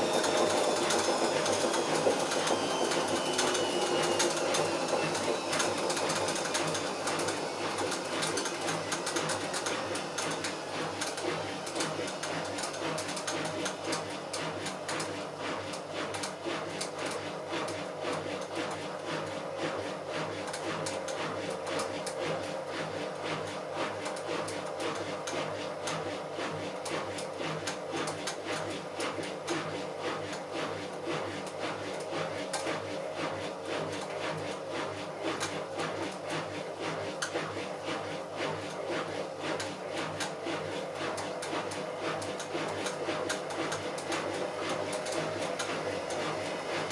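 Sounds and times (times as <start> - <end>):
washing machine hum: 0.0 - 46.9.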